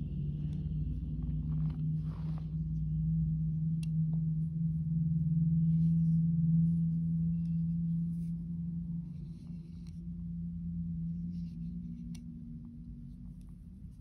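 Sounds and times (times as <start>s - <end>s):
steady low droning tone: 0.0s - 14.0s.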